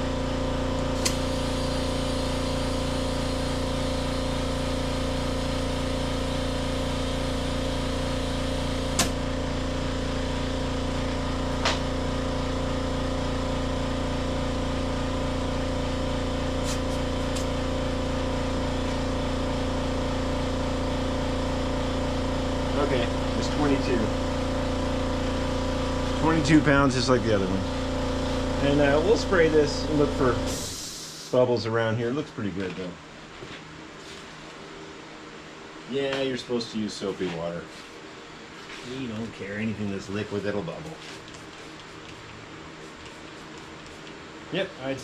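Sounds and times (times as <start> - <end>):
air compressor humming: 0.0 - 45.0.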